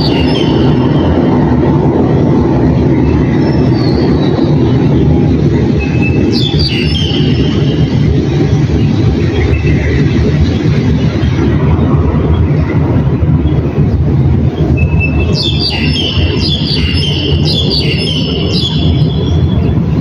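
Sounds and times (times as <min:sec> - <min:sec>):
low rumble of vehicles: 0:00.0 - 0:20.0.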